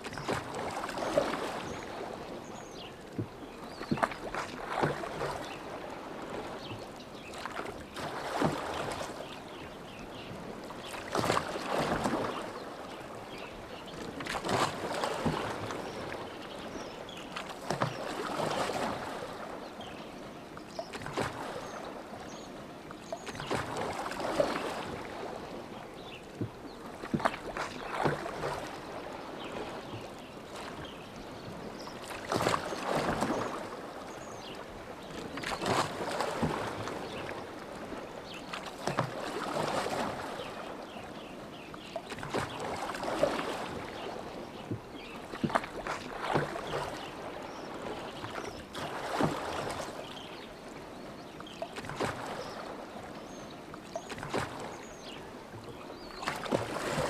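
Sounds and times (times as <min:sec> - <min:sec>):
oars splashing in water: 0:00.0 - 0:57.0.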